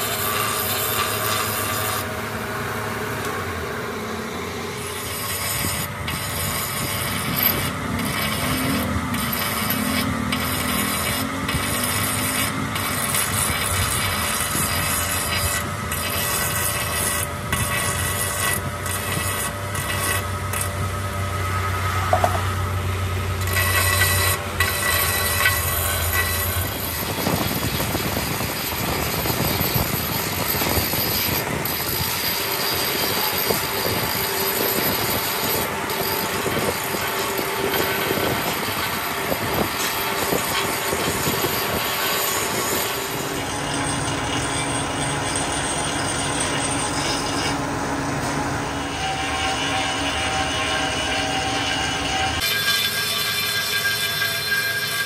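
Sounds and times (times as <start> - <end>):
grinder on metal: 0.0 - 55.0.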